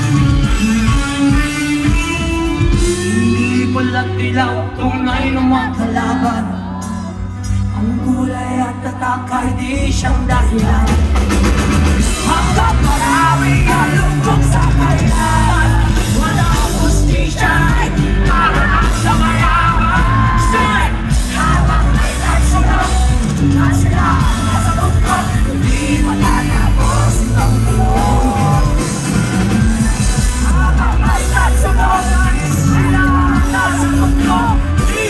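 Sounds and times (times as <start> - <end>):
crowd yelling and whooping: 0.0 - 9.0, 10.4 - 35.0
heavy bass: 0.0 - 35.0
live rock band playing: 0.0 - 35.0
person singing: 0.0 - 35.0.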